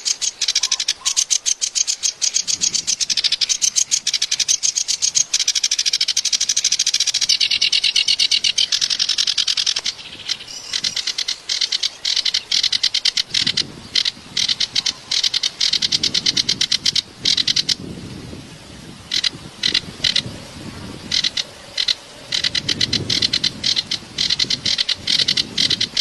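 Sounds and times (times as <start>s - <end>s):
warbler chattering song: 0.0s - 18.2s, 18.8s - 26.0s.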